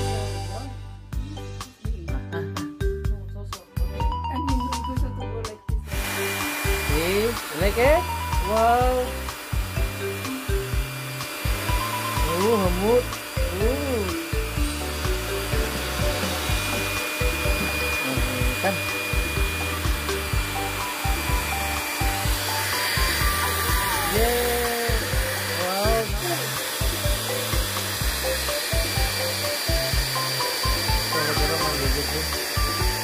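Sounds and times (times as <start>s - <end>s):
hair dryer hissing: 5.8s - 33.0s.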